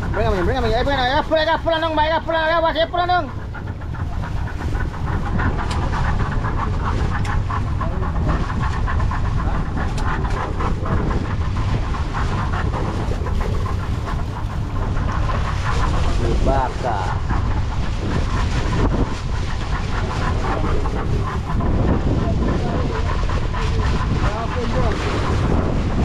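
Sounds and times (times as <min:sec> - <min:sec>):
boat engine rumble: 0:00.0 - 0:26.0.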